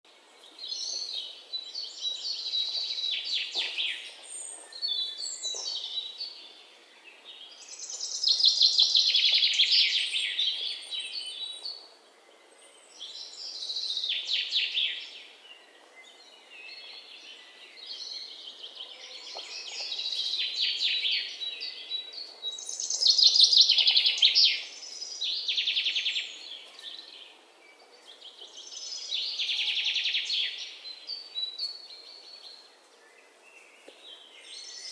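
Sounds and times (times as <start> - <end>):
birds singing trills: 0.4 - 34.9.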